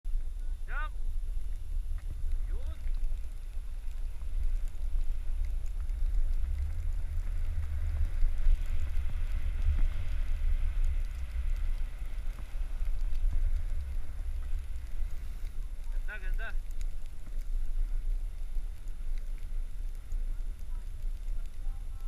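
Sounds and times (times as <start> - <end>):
skis sliding over snow: 0.1 - 22.0
wind buffeting microphone: 0.1 - 22.0.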